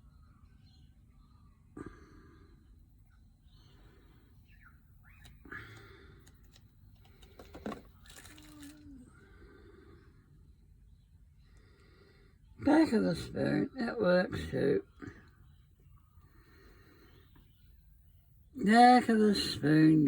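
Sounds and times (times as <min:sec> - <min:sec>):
low room rumble: 0:00.0 - 0:20.0.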